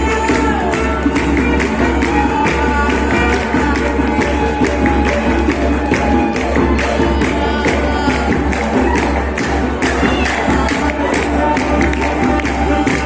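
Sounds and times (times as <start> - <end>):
music with percussive beat: 0.0 - 13.0
voices singing: 0.0 - 13.0.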